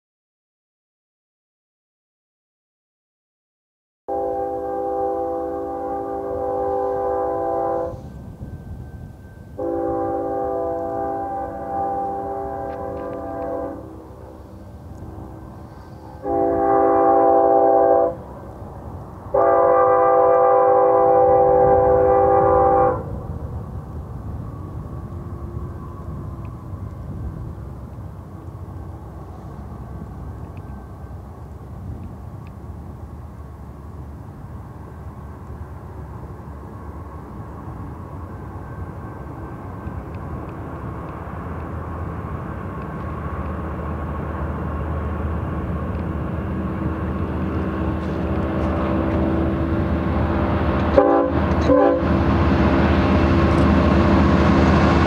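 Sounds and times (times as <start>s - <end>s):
diesel locomotive engine rumble: 4.1s - 55.0s.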